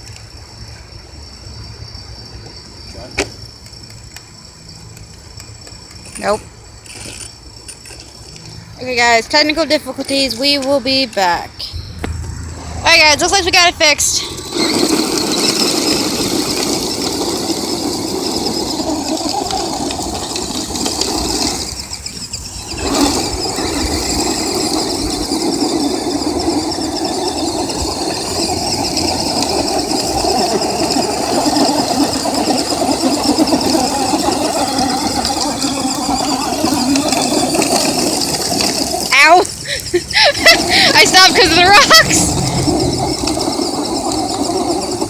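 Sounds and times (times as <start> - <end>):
electric motors whining: 0.0 - 45.0.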